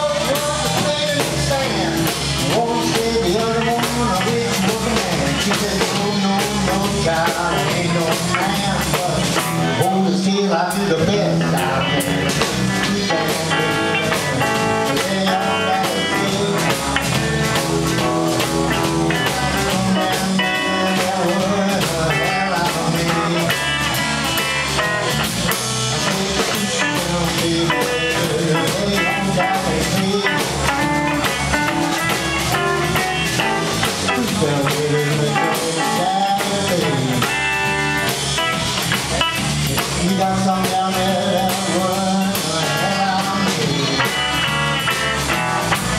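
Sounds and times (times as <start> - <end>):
bass guitar: 0.0 - 45.9
drum kit: 0.0 - 45.9
electric guitar: 0.0 - 45.9.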